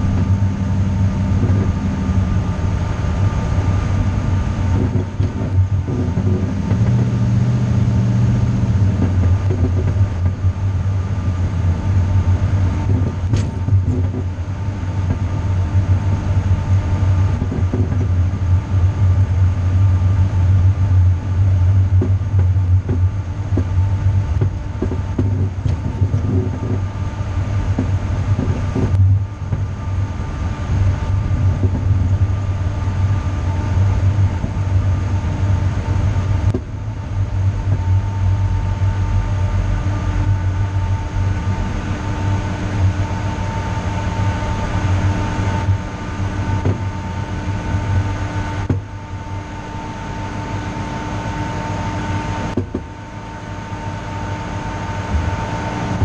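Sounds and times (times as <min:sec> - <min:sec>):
road and wind noise: 0:00.0 - 0:56.0
vehicle engine running: 0:00.0 - 0:56.0.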